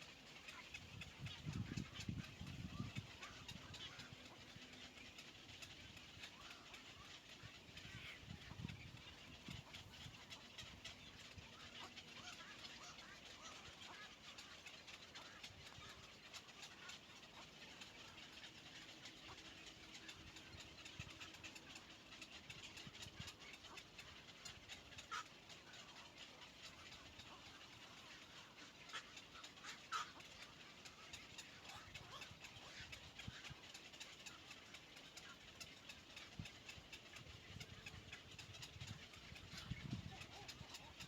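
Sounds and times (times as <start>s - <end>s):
small ticks: 0.0s - 41.0s.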